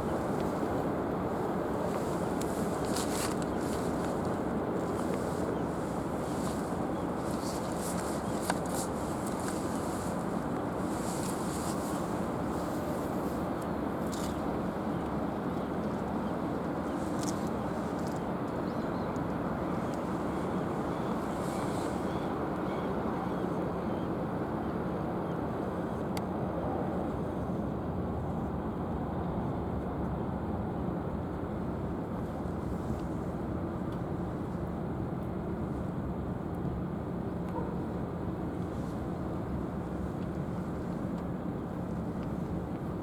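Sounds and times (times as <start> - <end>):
ship gas turbine engines rumbling: 0.0 - 43.0.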